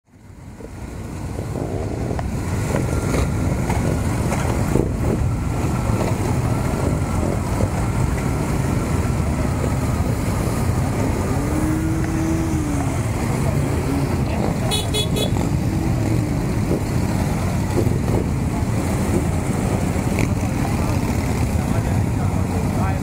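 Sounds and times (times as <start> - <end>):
motorcycle engines rumbling: 0.1 - 23.0.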